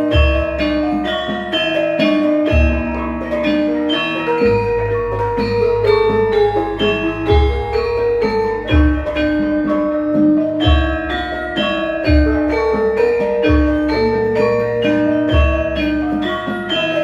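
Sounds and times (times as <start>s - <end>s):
bronze metallophones ringing: 0.0s - 17.0s.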